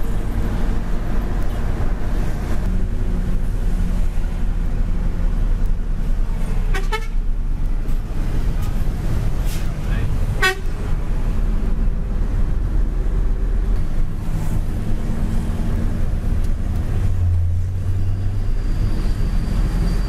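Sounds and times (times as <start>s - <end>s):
diesel truck engine rumble: 0.0s - 20.0s
road noise: 0.0s - 20.0s.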